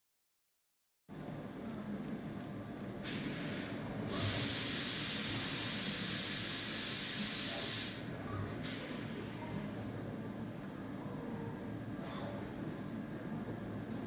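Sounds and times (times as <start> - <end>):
low background hum: 1.1 - 14.0.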